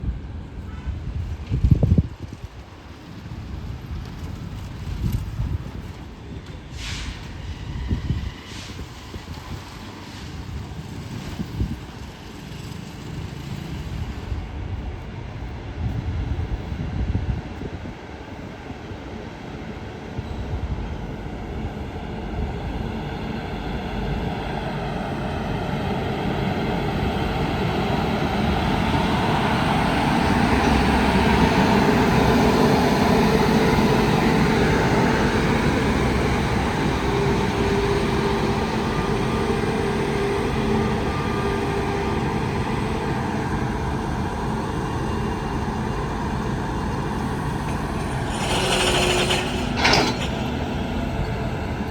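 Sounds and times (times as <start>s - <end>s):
train wheels rolling: 1.3s - 15.4s, 20.9s - 51.9s.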